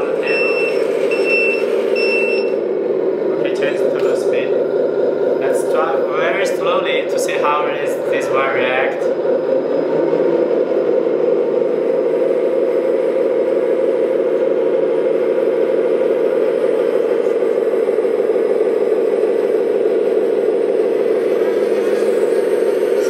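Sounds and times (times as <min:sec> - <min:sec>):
simulated diesel truck engine: 0:00.0 - 0:23.0.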